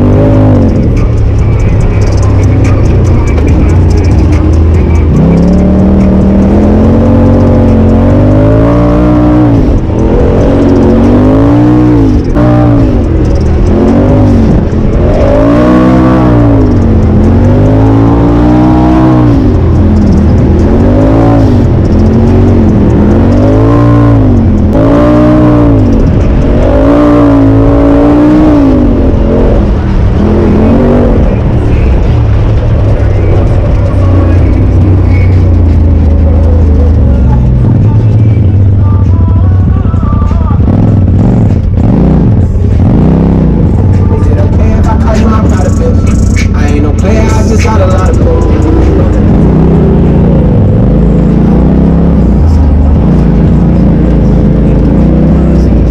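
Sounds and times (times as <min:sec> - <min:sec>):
engine revving: 0:00.0 - 0:55.9.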